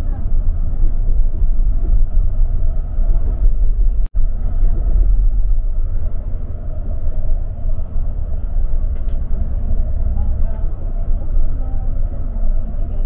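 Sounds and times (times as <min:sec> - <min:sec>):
bus engine and tyres rumbling: 0:00.0 - 0:13.0.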